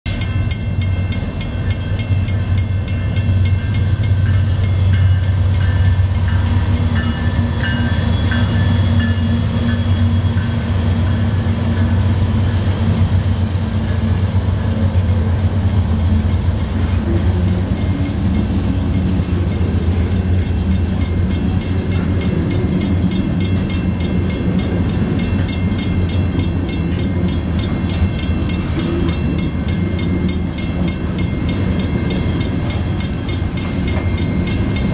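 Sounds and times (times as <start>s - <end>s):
crossing bells ringing: 0.0s - 34.9s
diesel locomotive engine rumble: 0.0s - 34.9s.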